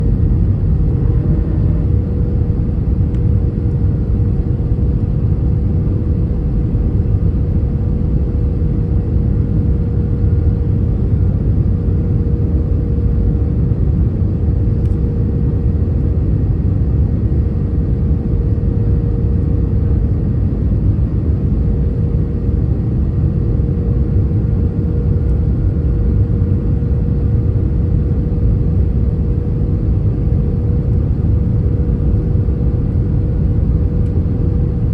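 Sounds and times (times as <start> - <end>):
aircraft cabin engine rumble: 0.0 - 34.9
constant hum tone: 0.0 - 34.9.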